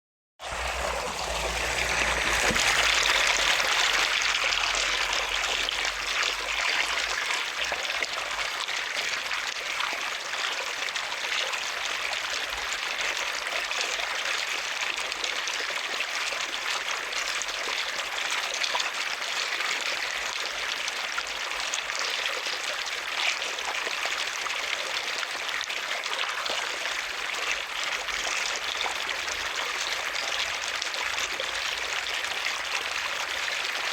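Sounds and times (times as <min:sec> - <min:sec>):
running water trickling: 0:00.4 - 0:33.9.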